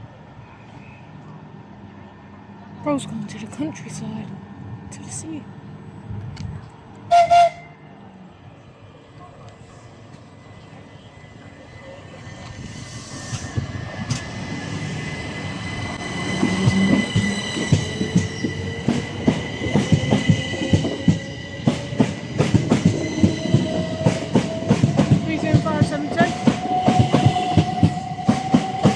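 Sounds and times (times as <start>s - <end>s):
electric train whine: 0.0s - 28.9s.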